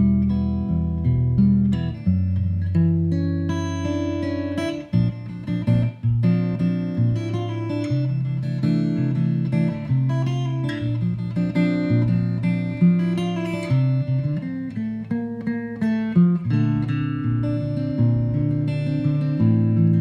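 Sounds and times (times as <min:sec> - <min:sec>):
electric guitar melody: 0:00.0 - 0:20.0.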